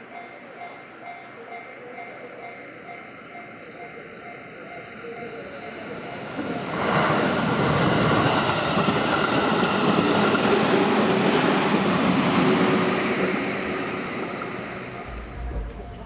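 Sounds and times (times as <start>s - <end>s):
electric train passing on rails: 0.0s - 16.0s.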